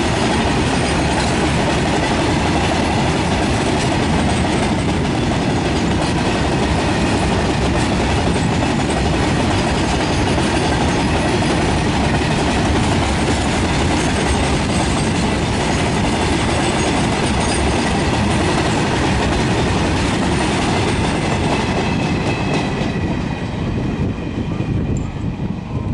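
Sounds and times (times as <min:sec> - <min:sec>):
freight train wagons rumbling: 0:00.0 - 0:25.9.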